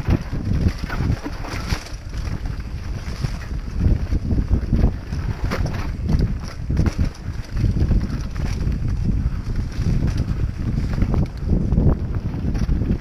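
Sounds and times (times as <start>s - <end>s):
bike tyres rattling on dirt: 0.0s - 13.0s
wind buffeting microphone: 0.0s - 13.0s.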